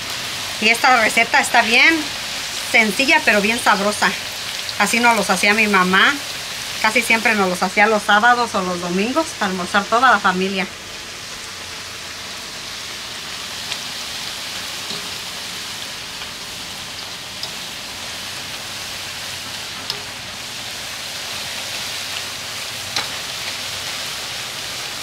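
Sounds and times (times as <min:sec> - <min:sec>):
tortilla pieces sizzling in oil: 0:00.0 - 0:25.0.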